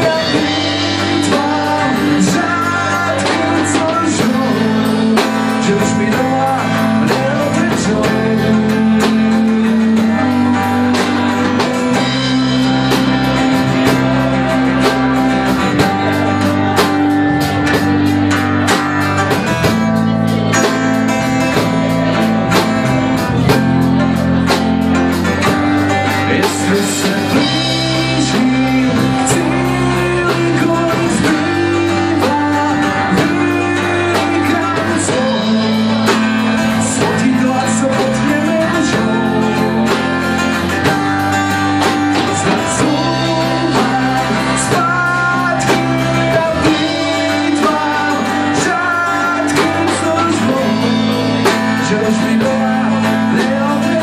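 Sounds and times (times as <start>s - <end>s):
acoustic guitars: 0.0s - 54.0s
person singing: 0.0s - 54.0s.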